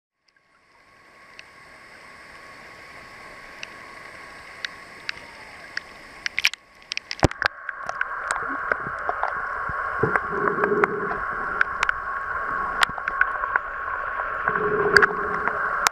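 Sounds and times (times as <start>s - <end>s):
underwater hiss: 0.5s - 15.9s.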